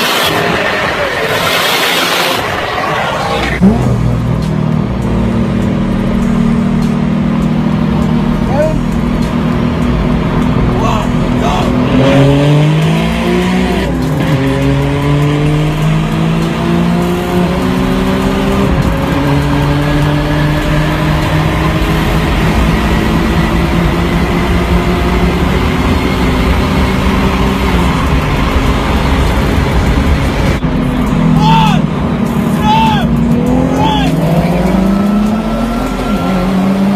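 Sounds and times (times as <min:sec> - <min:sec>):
car engine at full throttle: 0:00.0 - 0:36.9.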